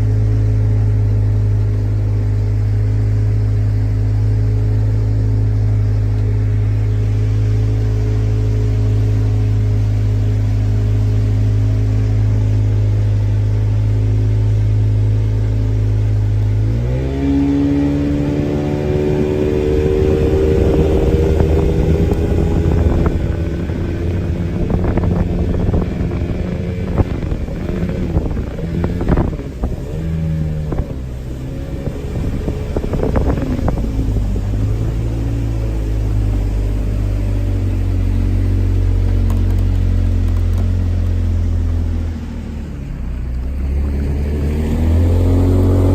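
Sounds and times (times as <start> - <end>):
speedboat engine: 0.0 - 45.9.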